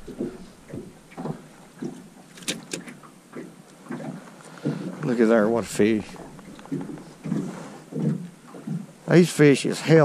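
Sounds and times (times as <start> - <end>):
light knocks and rustles: 0.0 - 9.0.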